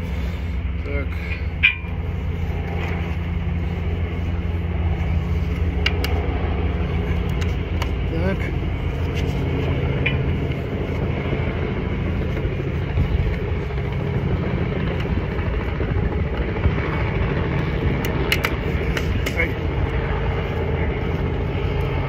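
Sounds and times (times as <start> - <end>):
engine running rumble: 0.0 - 22.0.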